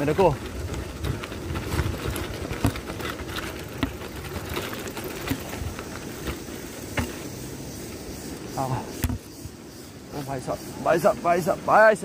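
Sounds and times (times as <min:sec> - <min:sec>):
bike rattling over stones: 0:00.0 - 0:12.0.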